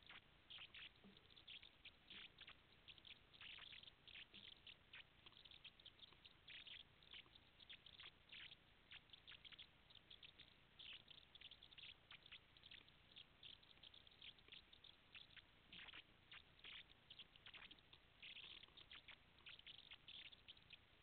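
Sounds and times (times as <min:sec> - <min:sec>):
faint crackling ticks: 0:00.0 - 0:21.0.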